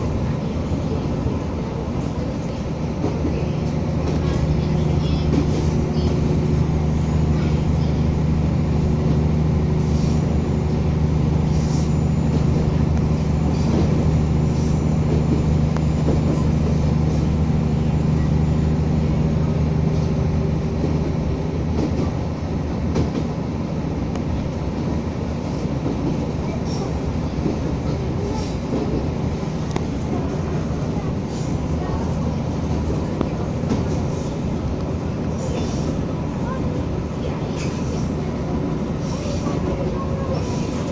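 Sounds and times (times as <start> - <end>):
railcar engine drone: 0.0 - 40.9.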